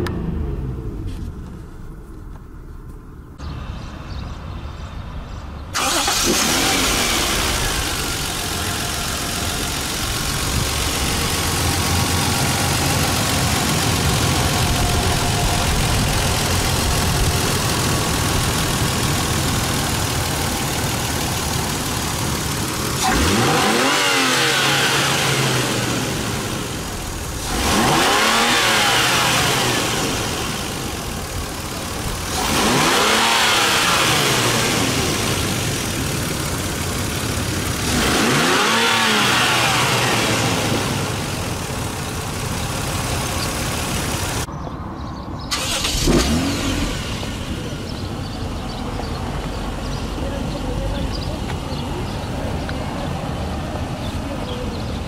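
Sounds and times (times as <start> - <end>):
car engine idling and revving: 0.0 - 4.8, 5.7 - 55.0.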